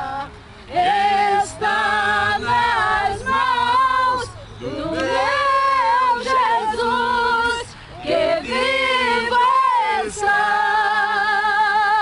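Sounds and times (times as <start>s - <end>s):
voices singing: 0.0s - 12.0s
woman singing worship song: 0.0s - 12.0s.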